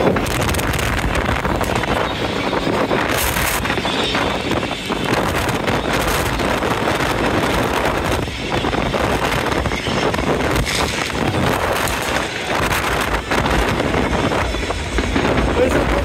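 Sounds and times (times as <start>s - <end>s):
fireworks crackling and popping: 0.0s - 16.0s
wind buffeting microphone: 0.0s - 16.0s.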